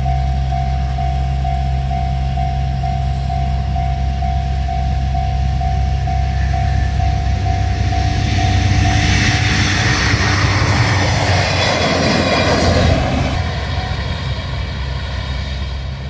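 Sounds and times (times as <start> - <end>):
diesel railcar passing: 0.0 - 16.0.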